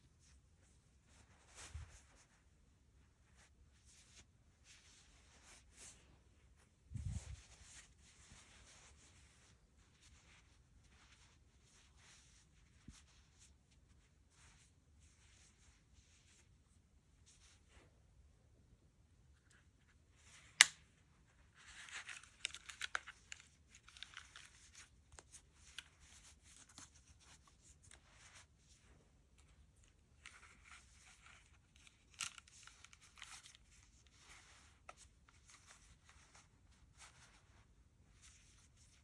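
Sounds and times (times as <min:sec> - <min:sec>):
rustling and crinkling handling: 0:00.0 - 0:18.0, 0:19.4 - 0:39.0.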